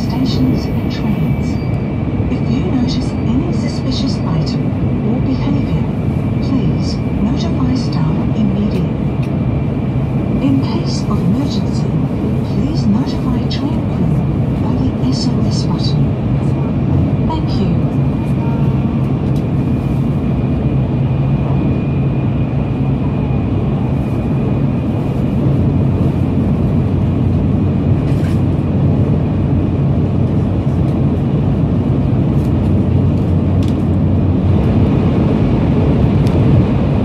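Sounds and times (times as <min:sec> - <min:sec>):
train cabin rumble: 0:00.0 - 0:37.0.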